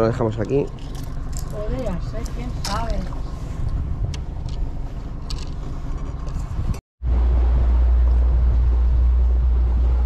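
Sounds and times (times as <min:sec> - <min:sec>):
boat engine low rumble: 0:00.0 - 0:10.0
wind on microphone: 0:01.6 - 0:10.0.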